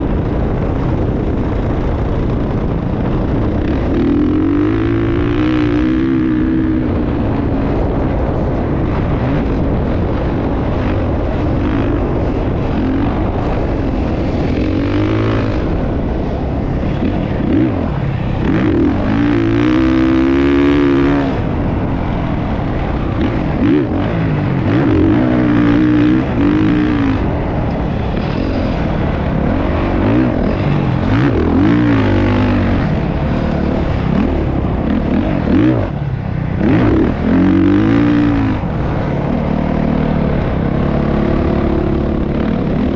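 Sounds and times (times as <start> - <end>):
dirt bike engines revving: 0.0 - 42.9.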